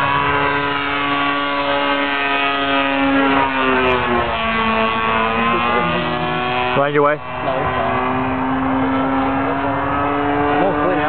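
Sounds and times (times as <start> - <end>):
model plane engine in flight: 0.0 - 11.0.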